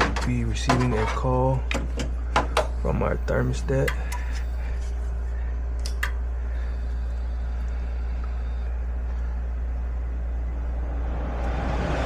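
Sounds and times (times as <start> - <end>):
furnace mechanical hum: 0.0 - 12.0.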